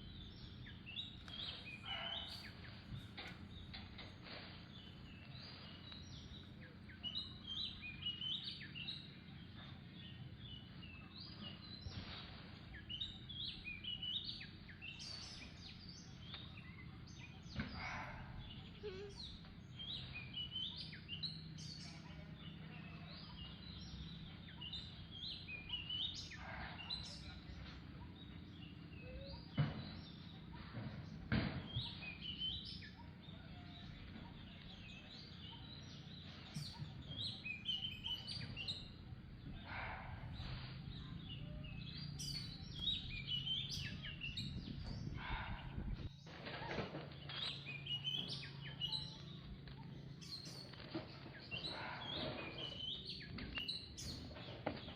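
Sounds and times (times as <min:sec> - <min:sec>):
steady low hum: 0:00.0 - 0:46.4
birds chirping: 0:00.0 - 0:54.9.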